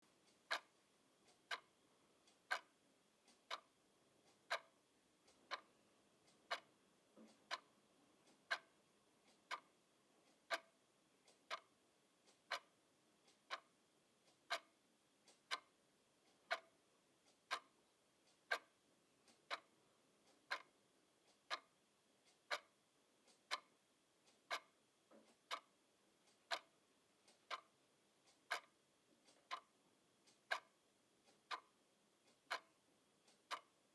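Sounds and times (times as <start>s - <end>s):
clock ticking: 0.1s - 33.9s.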